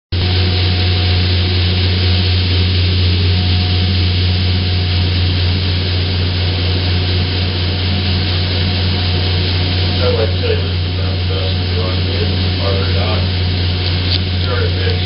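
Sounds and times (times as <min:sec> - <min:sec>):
low machinery hum: 0:00.1 - 0:15.0
paddlewheel churning water: 0:00.2 - 0:15.0.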